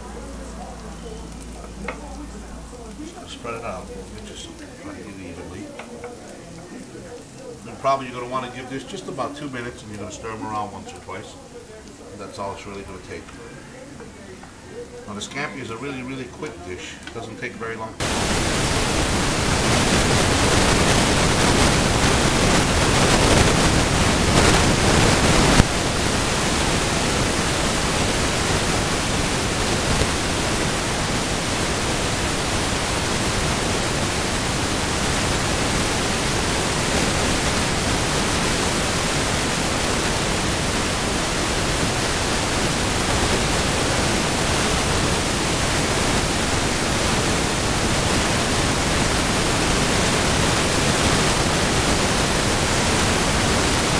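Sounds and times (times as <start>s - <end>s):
shrimp sizzling in a skillet: 0.0s - 53.9s.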